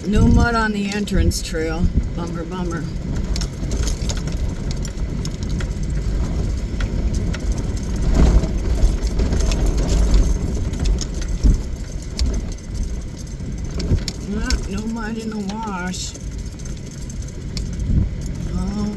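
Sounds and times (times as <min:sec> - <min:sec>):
engine and tyre rumble: 0:00.0 - 0:18.9
rattling: 0:00.0 - 0:18.9
vehicle jolts over bumps: 0:00.0 - 0:18.9.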